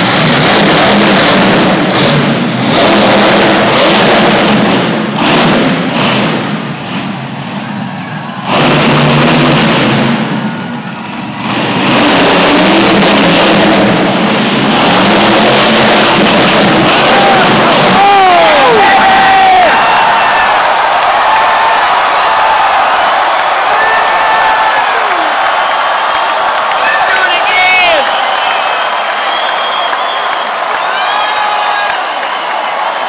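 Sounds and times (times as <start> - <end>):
monster truck engine revving: 0.0 - 27.4.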